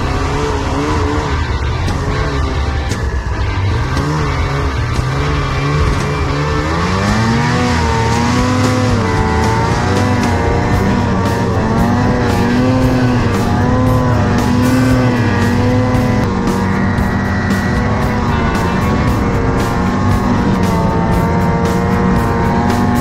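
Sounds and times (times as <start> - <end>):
snowmobile engine running hard: 0.0 - 23.0.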